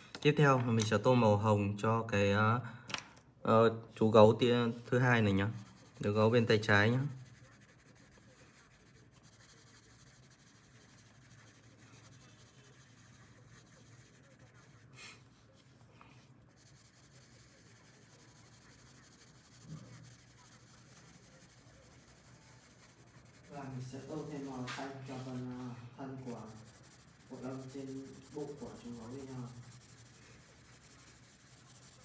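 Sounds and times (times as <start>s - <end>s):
colored pencil scratching on paper: 4.8s - 32.0s.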